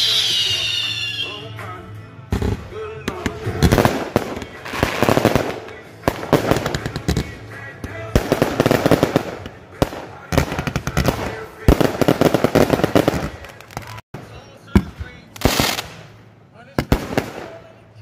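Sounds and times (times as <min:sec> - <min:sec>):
fireworks bangs and crackling: 0:02.3 - 0:18.0.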